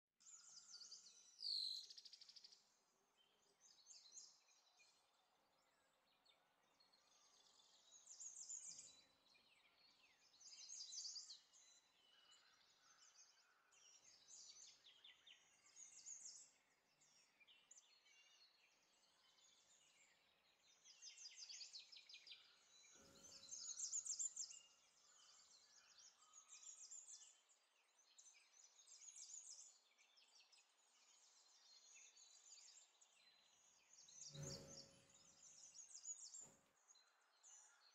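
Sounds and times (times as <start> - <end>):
birdsong chirps and trills: 0.2 - 37.9.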